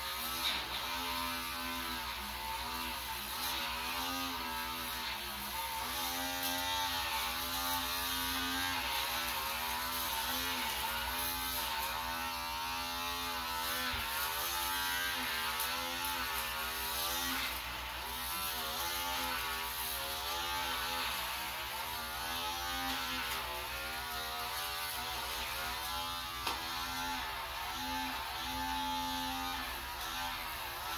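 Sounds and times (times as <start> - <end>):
electric shaver buzzing: 0.0 - 30.9.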